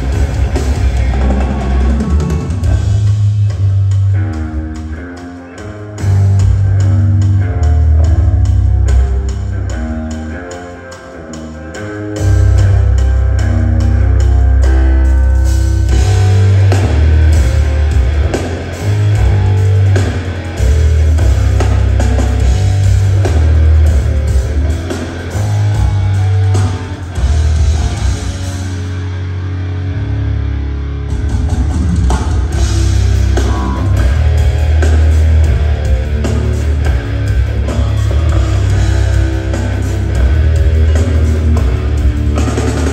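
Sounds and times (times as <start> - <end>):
rock band playing heavy riff: 0.0 - 42.9.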